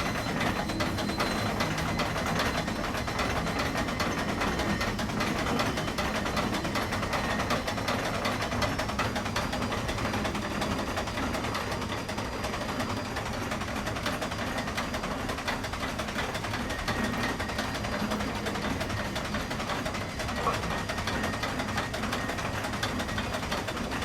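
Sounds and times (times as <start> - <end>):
continuous machine rumble: 0.0 - 24.0
steam crane clattering: 0.0 - 24.0.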